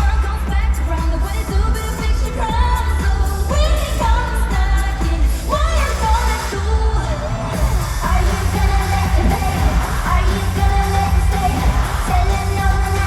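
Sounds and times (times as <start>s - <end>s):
pop song with female singing: 0.0s - 13.0s.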